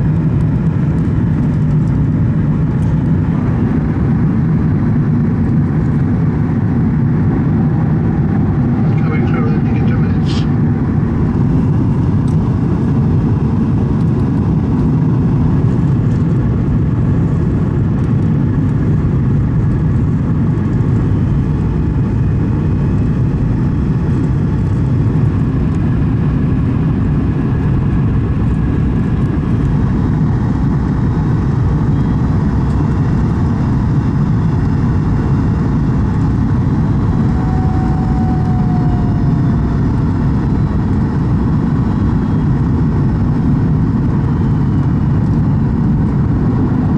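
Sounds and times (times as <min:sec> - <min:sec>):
airliner cabin rumble: 0:00.0 - 0:46.9.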